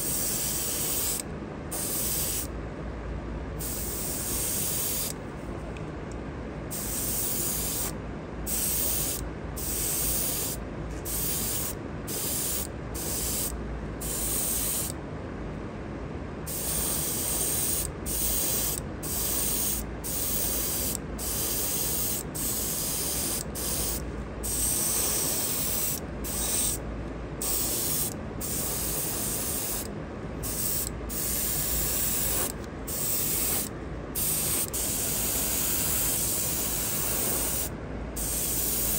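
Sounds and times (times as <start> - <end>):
airbrush hissing: 0.0 - 2.5, 3.6 - 5.2, 6.7 - 15.0, 16.5 - 26.8, 27.4 - 38.9
steady low hum: 0.0 - 38.9.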